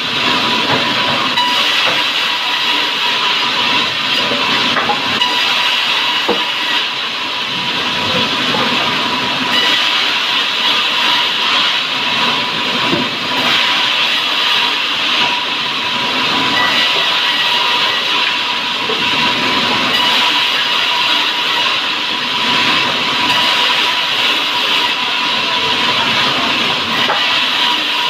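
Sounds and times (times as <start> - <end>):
woodworking machine hissing: 0.0 - 28.0.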